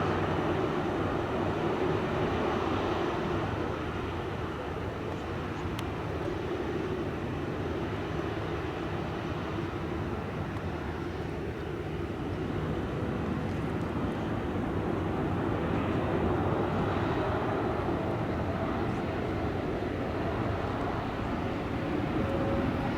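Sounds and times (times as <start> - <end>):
jet engines rumbling: 0.0 - 22.9.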